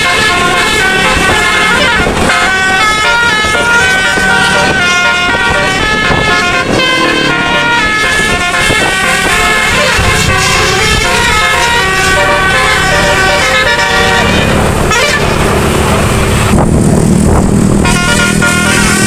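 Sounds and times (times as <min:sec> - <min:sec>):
musical air horn playing tune: 0:00.0 - 0:16.5, 0:17.8 - 0:19.0
bus engine rumble: 0:00.0 - 0:19.0.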